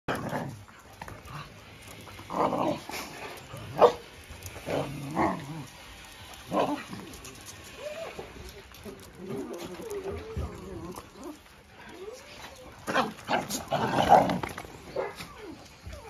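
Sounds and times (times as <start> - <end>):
dogs barking and yelping: 0.1 - 16.0.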